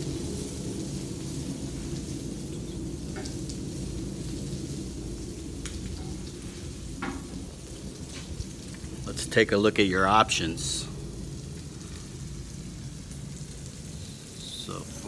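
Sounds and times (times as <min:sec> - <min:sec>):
food sizzling on griddle: 0:00.0 - 0:15.0.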